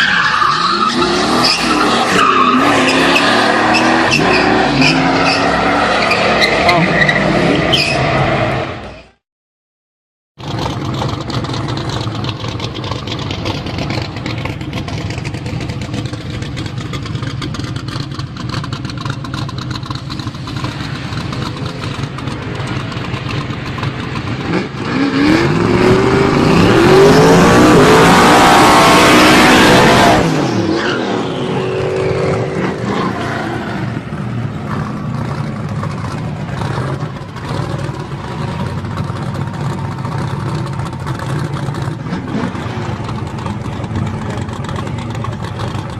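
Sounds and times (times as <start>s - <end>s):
car engine rumbling and revving: 0.0s - 9.2s, 10.4s - 45.9s.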